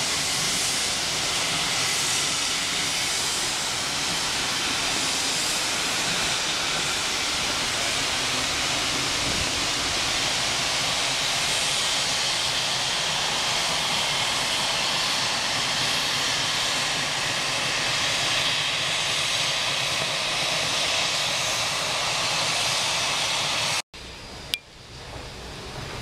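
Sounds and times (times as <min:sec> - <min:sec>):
steam locomotive venting steam: 0:00.0 - 0:23.8.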